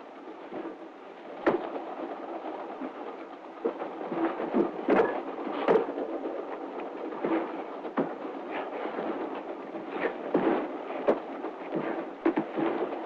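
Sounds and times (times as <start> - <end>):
moving train rattling rumble: 0.0 - 13.0.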